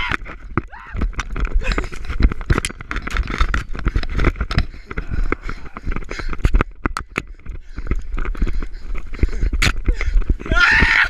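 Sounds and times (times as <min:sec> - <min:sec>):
branches rustling and snapping: 0:00.0 - 0:11.0.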